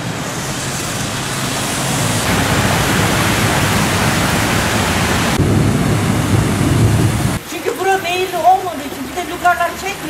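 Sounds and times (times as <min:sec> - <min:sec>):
cars driving through floodwater: 0:00.0 - 0:10.0.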